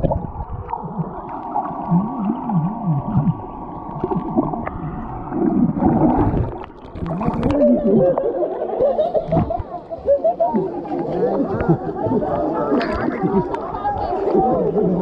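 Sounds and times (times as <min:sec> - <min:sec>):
muffled underwater water movement: 0:00.0 - 0:15.0
swimmers churning water: 0:00.0 - 0:15.0.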